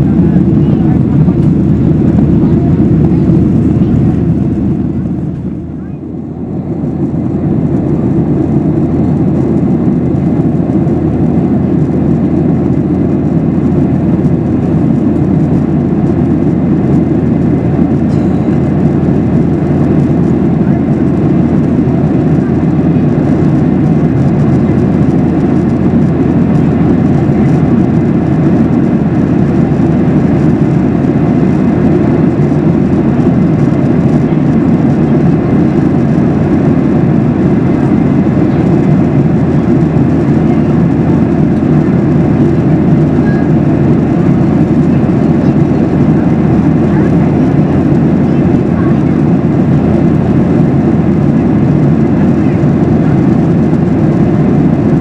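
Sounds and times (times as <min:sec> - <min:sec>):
airplane cabin jet engine roar: 0:00.0 - 0:55.0.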